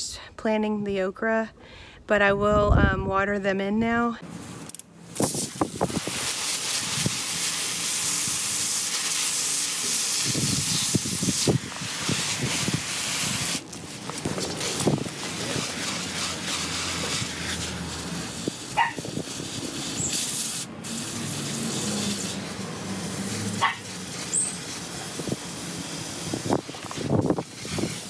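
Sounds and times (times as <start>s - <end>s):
water spraying from a hose: 5.1s - 28.0s.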